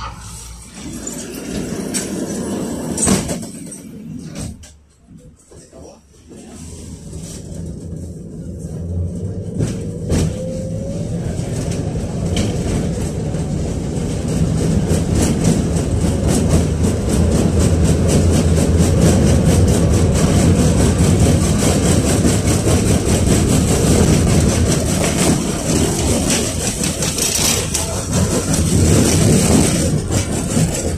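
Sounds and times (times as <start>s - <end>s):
tram wheels rumbling on rails: 0.0s - 30.9s.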